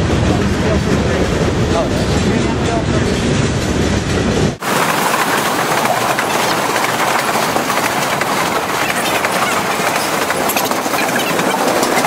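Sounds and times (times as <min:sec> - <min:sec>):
freight train rattling: 0:00.0 - 0:12.0
freight train wheels rumbling: 0:00.0 - 0:12.0.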